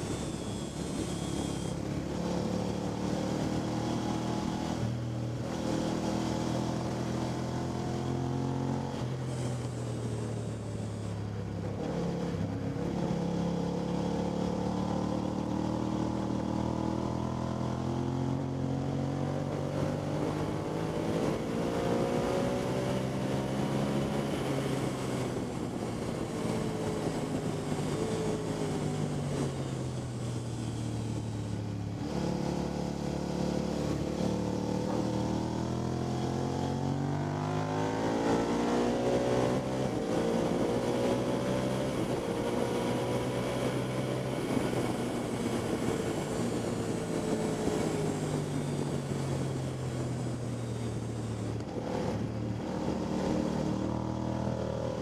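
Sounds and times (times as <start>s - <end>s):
motorcycle engine revving: 0.0s - 49.8s.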